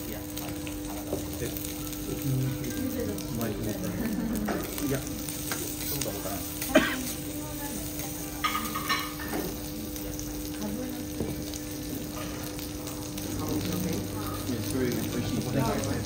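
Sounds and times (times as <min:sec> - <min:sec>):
meat sizzling on a griddle: 0:00.0 - 0:16.0.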